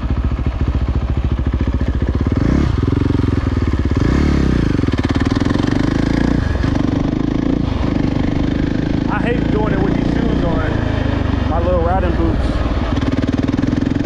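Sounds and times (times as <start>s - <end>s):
dirt bike engine revving: 1.4s - 14.0s.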